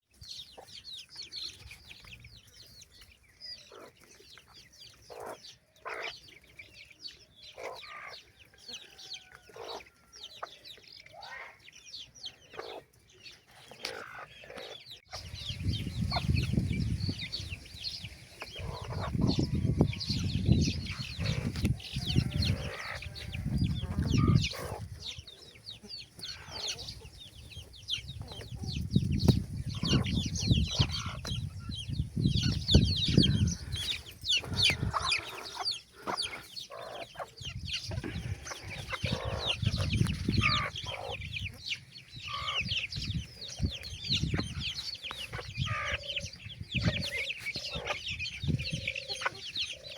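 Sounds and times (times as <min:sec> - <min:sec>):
chickens clucking: 0:00.1 - 0:49.9.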